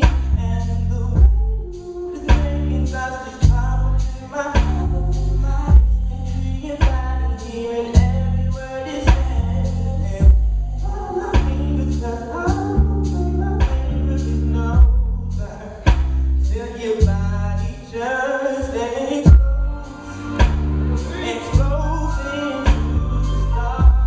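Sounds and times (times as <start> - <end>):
music with heavy bass and drums: 0.0 - 17.8, 19.2 - 24.0
man singing soul song: 0.0 - 24.0.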